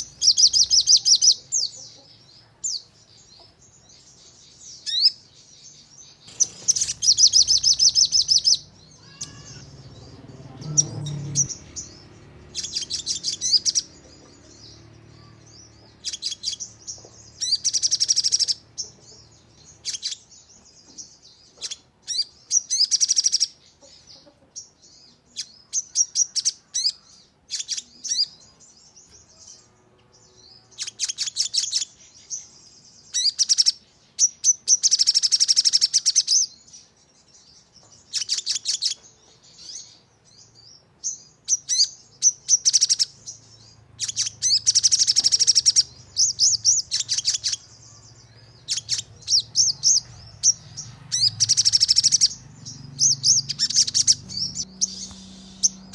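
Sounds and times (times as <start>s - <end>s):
bird singing rapid trills: 0.0s - 55.9s.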